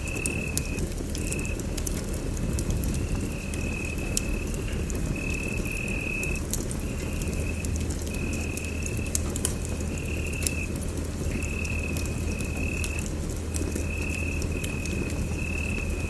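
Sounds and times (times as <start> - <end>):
fire crackling and rumbling: 0.0 - 16.0.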